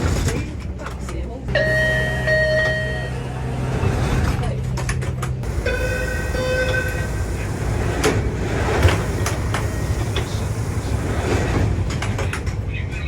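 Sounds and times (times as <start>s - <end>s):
subway car low rumble: 0.0s - 13.0s.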